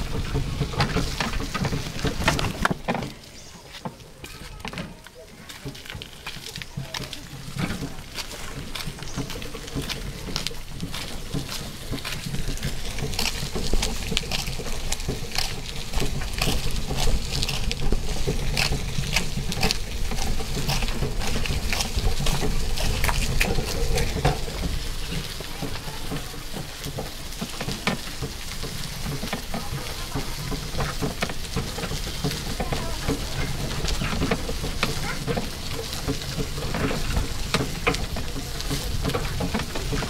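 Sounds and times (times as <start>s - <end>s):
rickshaw rattling on dirt lane: 0.0s - 40.0s.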